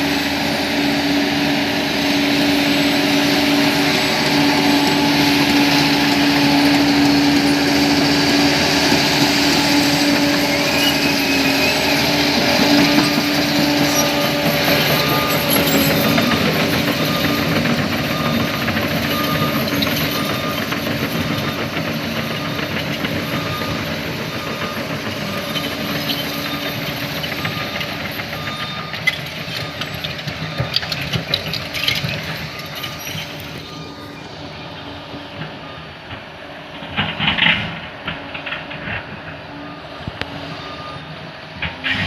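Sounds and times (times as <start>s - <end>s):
bulldozer diesel engine running: 0.0s - 42.0s
reversing alarm beeping: 0.1s - 36.8s, 39.5s - 41.8s.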